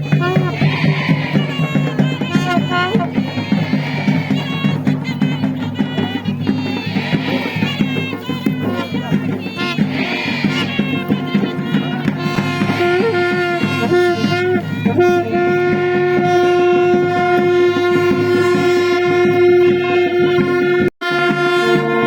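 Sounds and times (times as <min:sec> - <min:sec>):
drums beating steadily: 0:00.0 - 0:22.0
wind instrument melody: 0:00.0 - 0:22.0.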